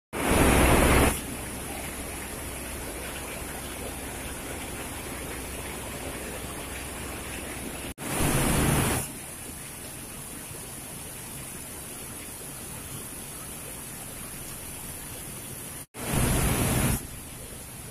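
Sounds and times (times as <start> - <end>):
heavy rain on a metal roof: 0.2 - 17.9.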